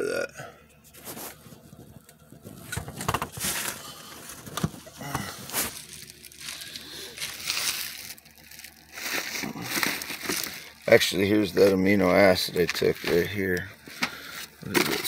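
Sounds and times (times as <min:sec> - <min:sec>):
rustling and handling noises: 0:00.7 - 0:15.0.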